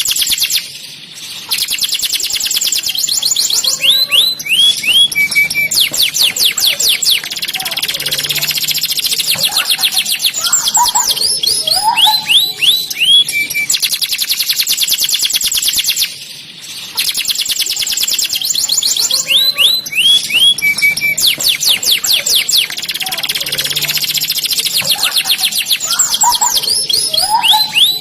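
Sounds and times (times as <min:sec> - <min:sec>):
canary singing: 0:00.0 - 0:28.0.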